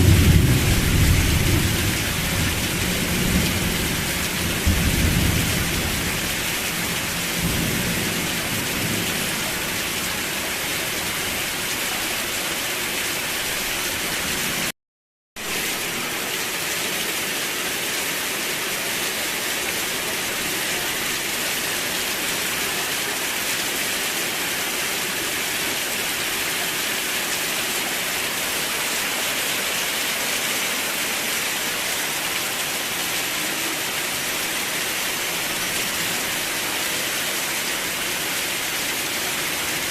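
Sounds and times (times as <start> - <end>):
rain hiss: 0.0 - 14.7, 15.4 - 39.9.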